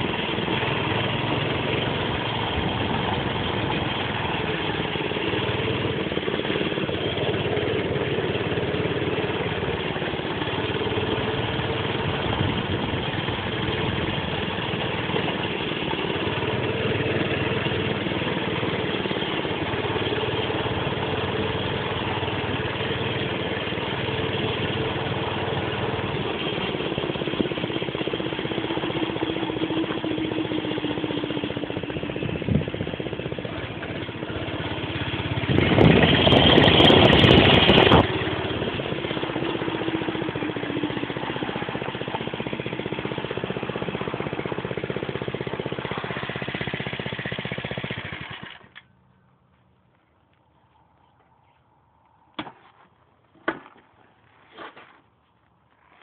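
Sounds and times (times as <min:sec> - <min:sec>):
small engine running: 0:00.0 - 0:49.1.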